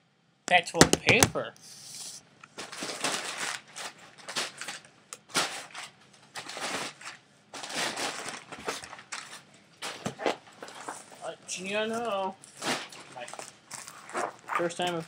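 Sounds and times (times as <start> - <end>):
packing paper crinkling: 2.6 - 15.0.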